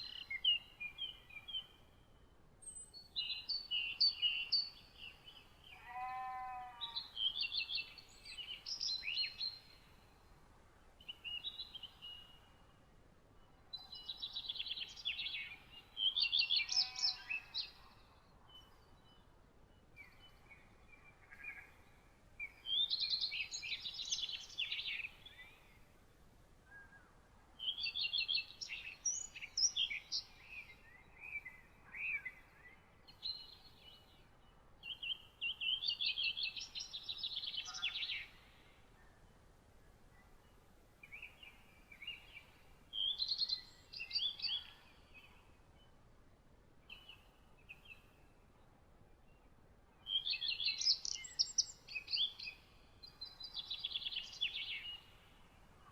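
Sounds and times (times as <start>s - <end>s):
songbirds singing: 0.0s - 55.9s.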